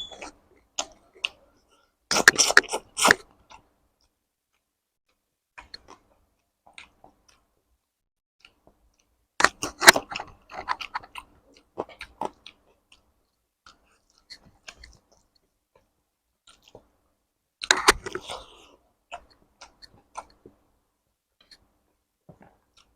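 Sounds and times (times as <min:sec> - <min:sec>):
person chewing food: 0:00.1 - 0:22.9.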